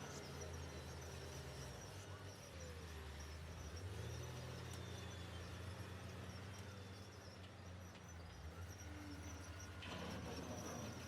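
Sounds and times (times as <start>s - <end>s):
faint high insect drone: 0.0s - 11.0s.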